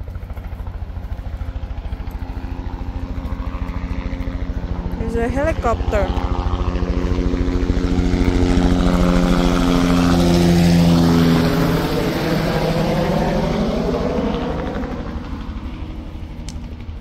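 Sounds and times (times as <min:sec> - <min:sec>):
helicopter rotor chop: 0:00.0 - 0:17.0.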